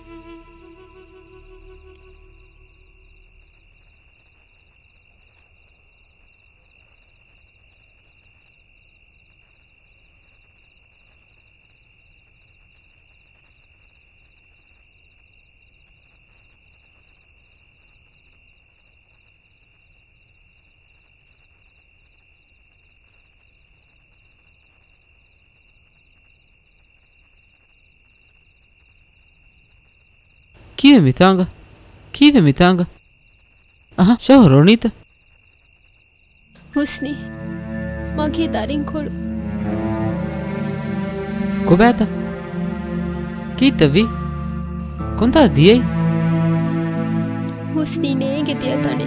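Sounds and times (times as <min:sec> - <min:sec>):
insect trill: 0:00.0 - 0:49.0
insects chirring: 0:00.0 - 0:49.0.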